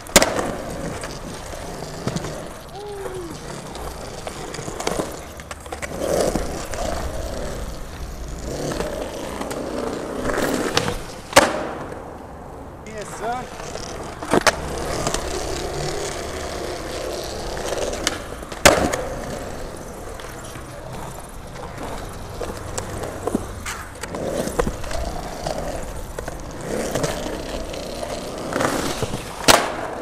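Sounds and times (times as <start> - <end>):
skateboard clacks popping and landing: 0.0 - 12.2, 13.5 - 30.0
skateboard wheels rolling on concrete: 0.0 - 30.0.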